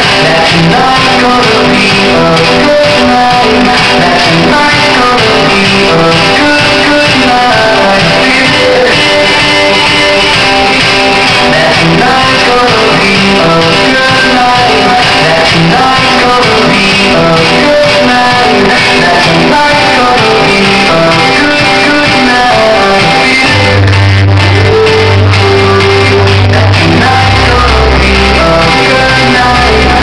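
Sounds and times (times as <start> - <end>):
loud guitar music with singing: 0.0 - 30.0.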